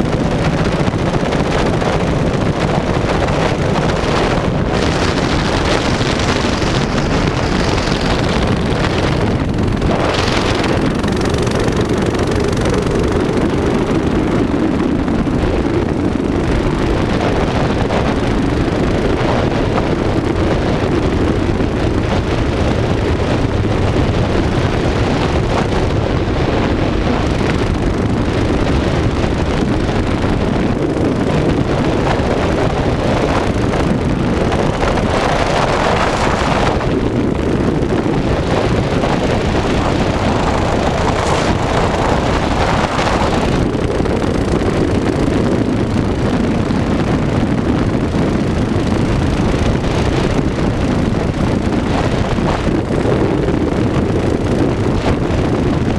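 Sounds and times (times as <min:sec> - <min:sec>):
mini bike engine running: 0:00.0 - 0:55.9
wind buffeting microphone: 0:00.0 - 0:55.9.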